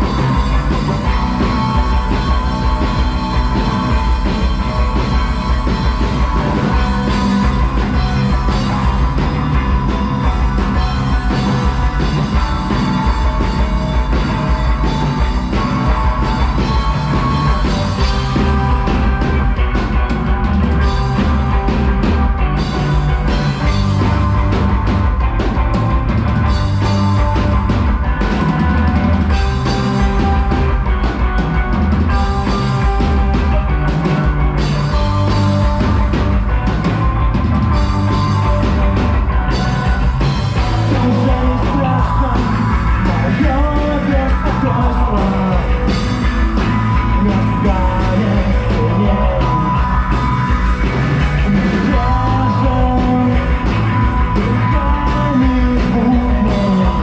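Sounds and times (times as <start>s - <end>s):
drum kit beat: 0.0s - 57.0s
rock band playing live: 0.0s - 57.0s.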